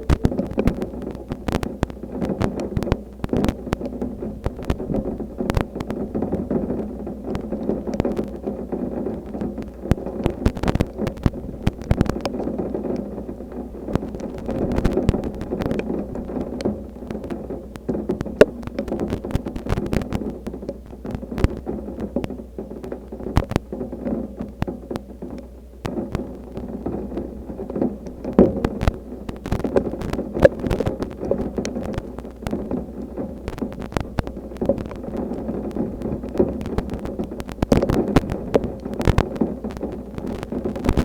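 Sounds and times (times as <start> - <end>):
rain tapping: 0.0 - 41.0
wind rumbling on microphone: 0.0 - 41.0.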